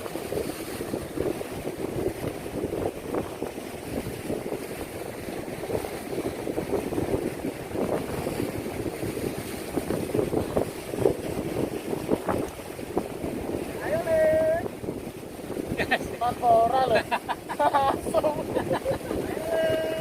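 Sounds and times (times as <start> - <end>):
sea water: 0.0 - 20.0
wind: 0.0 - 20.0
wind buffeting microphone: 0.0 - 20.0.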